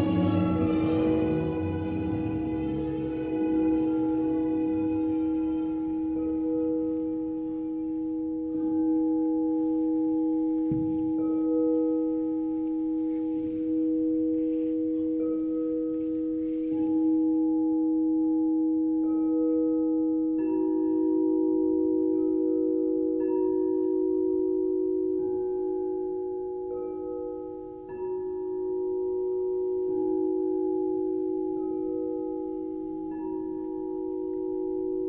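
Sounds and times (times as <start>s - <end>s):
bell-like ringing tones: 0.0s - 35.0s.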